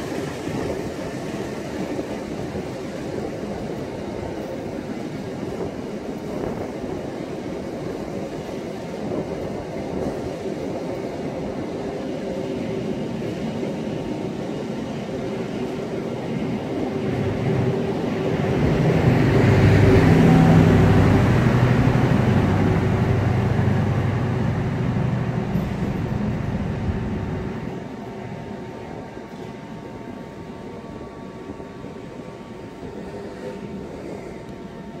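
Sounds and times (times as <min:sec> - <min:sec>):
train carriages rolling past: 0:00.0 - 0:35.0.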